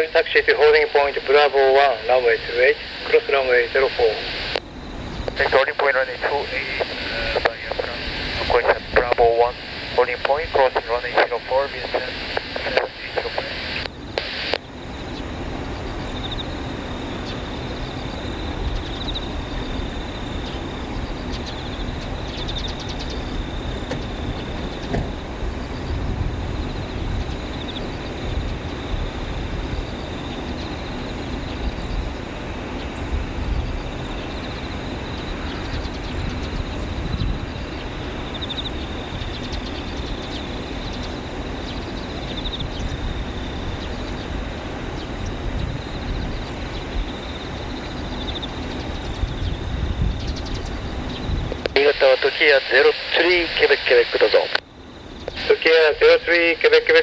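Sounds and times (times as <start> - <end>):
distant jet engines idling: 0.0 - 57.0
faint steady hum: 0.0 - 57.0
insects chirping: 0.0 - 57.0.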